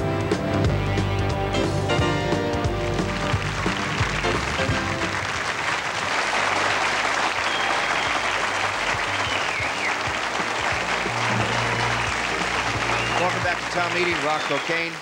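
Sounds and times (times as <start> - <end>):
music playing: 0.0 - 15.0
audience applauding: 2.5 - 15.0.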